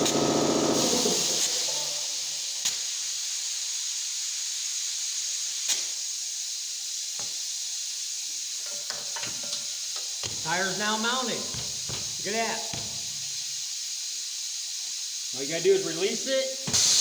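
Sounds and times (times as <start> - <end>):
compressed air hissing: 0.0 - 17.0.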